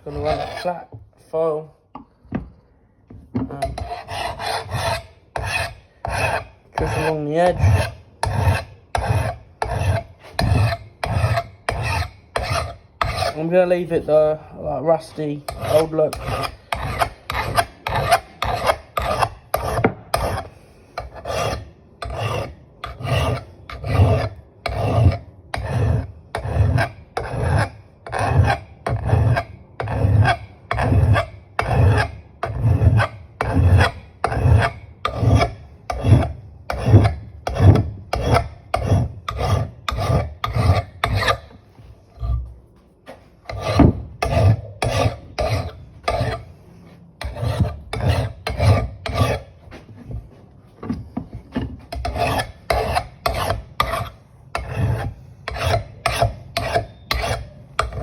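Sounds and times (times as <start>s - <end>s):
file rasping on axe head: 0.0s - 1.0s, 3.5s - 50.2s, 50.9s - 58.0s.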